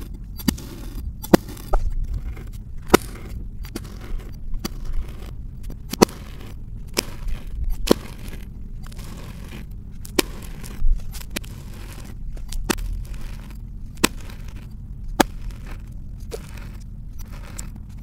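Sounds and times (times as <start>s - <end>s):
knife cutting sand: 0.0s - 18.0s.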